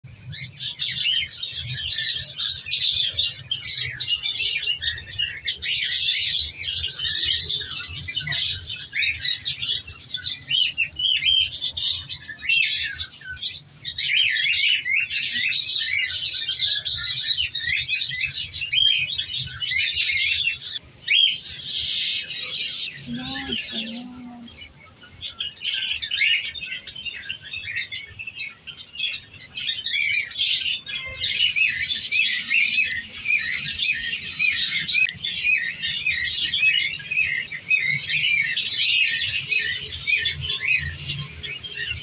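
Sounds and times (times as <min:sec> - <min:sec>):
cockatiels chirping: 0:00.3 - 0:42.0.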